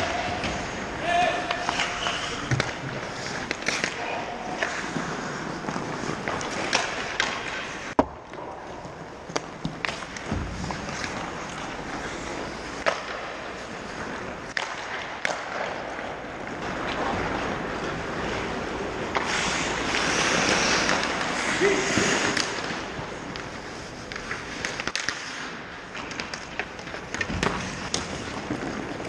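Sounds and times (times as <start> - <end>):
hockey sticks and puck clacking: 0.0 - 29.0
skates scraping on ice: 0.0 - 29.0.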